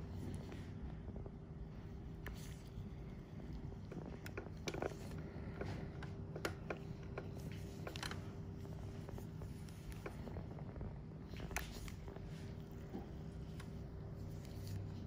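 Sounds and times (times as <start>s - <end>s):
low background hum: 0.0s - 15.0s
soft clicks and crackles: 0.0s - 15.0s.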